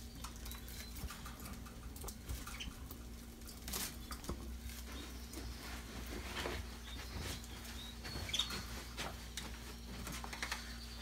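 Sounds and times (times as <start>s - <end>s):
quiet bird chirps: 0.0s - 1.8s, 2.4s - 3.0s, 3.8s - 11.0s
birds scratching and clicking: 0.0s - 11.0s
faint steady hum: 0.0s - 11.0s.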